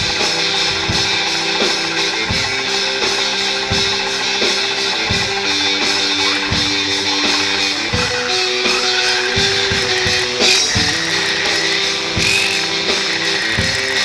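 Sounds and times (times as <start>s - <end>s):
guitar music with steady beat: 0.0s - 14.0s.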